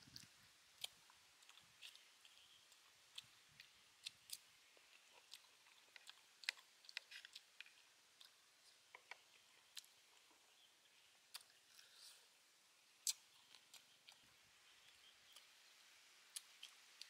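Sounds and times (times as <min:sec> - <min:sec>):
crunchy chewing: 0:00.0 - 0:12.3, 0:12.9 - 0:15.7, 0:16.3 - 0:17.0.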